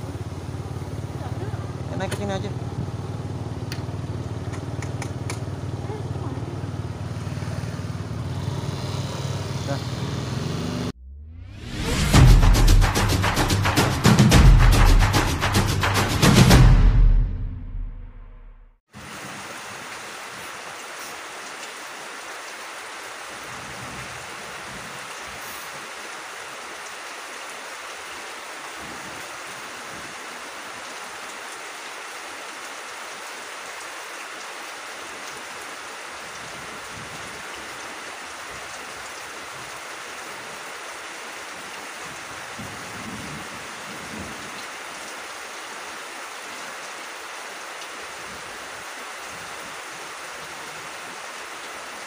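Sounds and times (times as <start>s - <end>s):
rain on leaves and grass: 0.0s - 10.0s, 18.9s - 52.0s.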